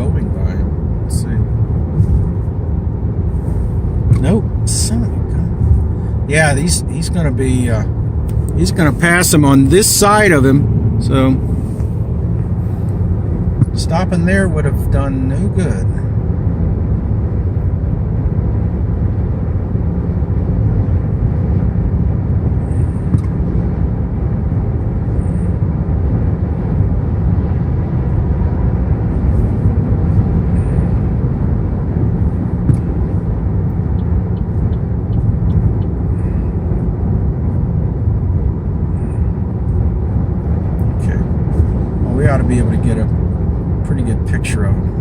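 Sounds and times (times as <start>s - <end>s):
vehicle road and engine rumble: 0.0s - 45.0s.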